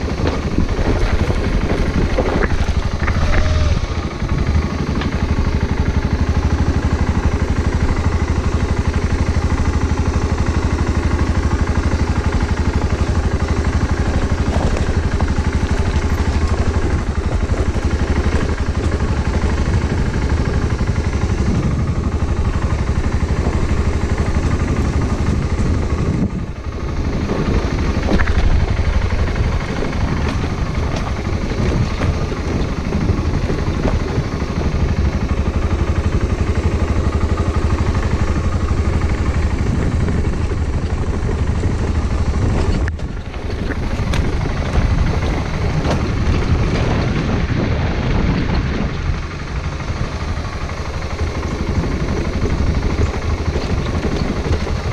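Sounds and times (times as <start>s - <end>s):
road noise: 0.0s - 54.9s
wind rumble on microphone: 0.0s - 54.9s.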